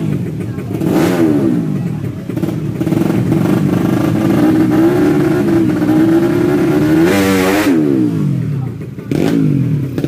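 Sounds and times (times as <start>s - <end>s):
motorbike engine at high revs: 0.0s - 10.0s.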